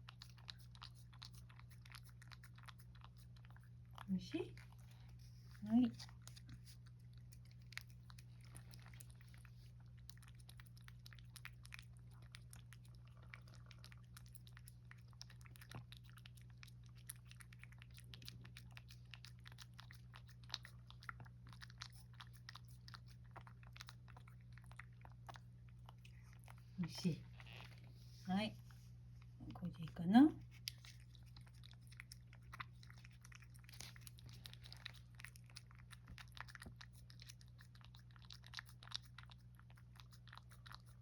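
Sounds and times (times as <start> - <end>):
cat tongue wet clicks: 0.0 - 5.1, 5.9 - 26.5, 30.4 - 41.0.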